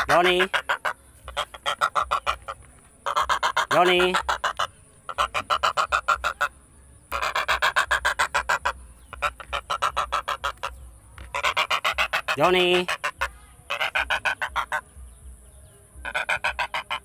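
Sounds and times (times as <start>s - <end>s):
stork clattering its bill: 0.0s - 14.9s, 16.0s - 17.0s.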